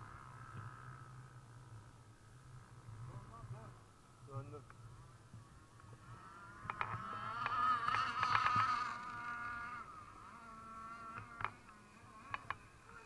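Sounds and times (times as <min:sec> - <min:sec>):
rc boat engines buzzing: 0:00.0 - 0:13.0.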